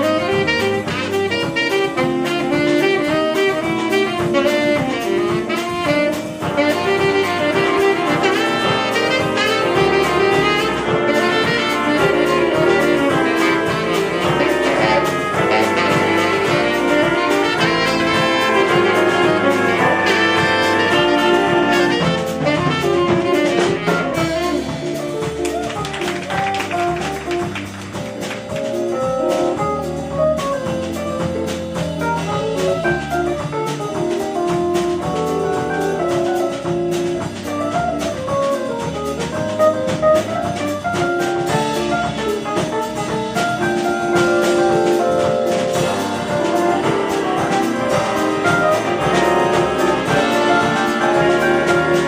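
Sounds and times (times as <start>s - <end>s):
cymbals: 0.0s - 25.8s, 26.6s - 52.0s
jazz big band playing: 0.0s - 52.0s.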